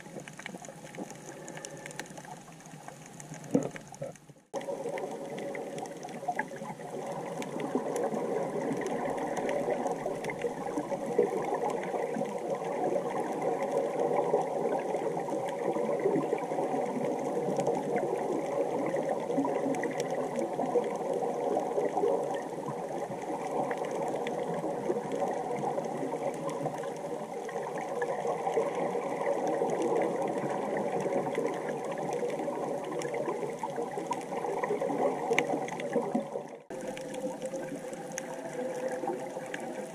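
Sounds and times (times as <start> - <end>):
muffled underwater compressor hum: 0.0 - 39.9
churning bubbling water: 3.0 - 39.9.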